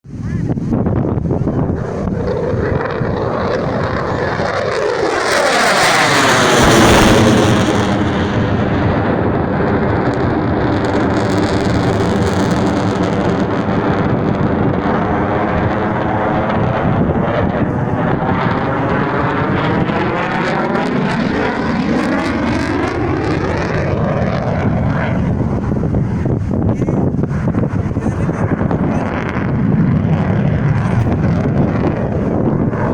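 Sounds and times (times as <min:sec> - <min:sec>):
jet engine roaring flying past: 0:00.0 - 0:32.9.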